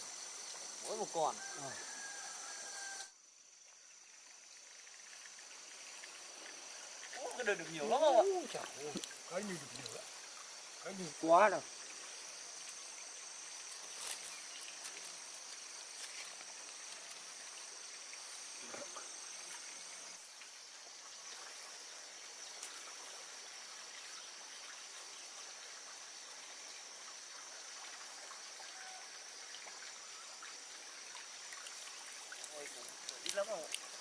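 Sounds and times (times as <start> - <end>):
faint even hiss: 0.0 - 34.0
insects chirring: 0.0 - 34.0.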